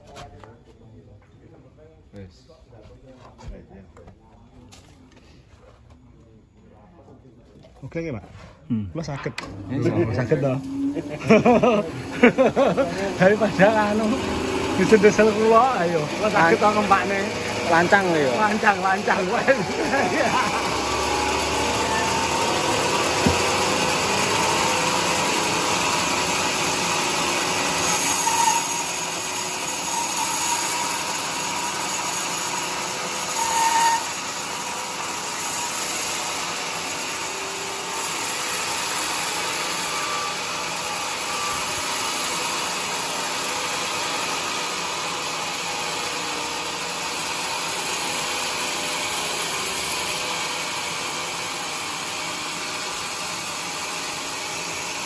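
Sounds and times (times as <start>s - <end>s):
band saw cutting through log: 9.4s - 55.0s.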